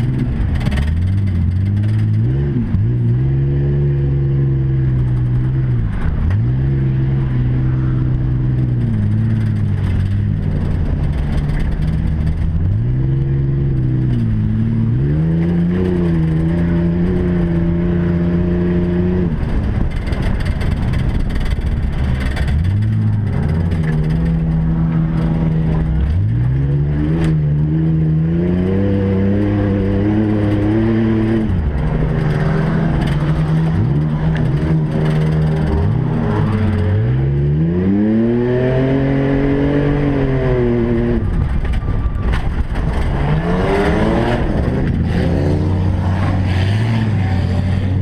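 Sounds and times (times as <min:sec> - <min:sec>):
truck engine accelerating: 0:00.0 - 0:48.0.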